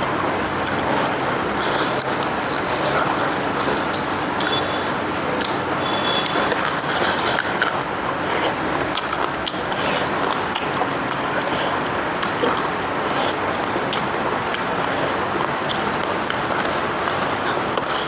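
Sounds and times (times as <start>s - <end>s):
wet chewing and mouth smacking: 0.0s - 18.0s.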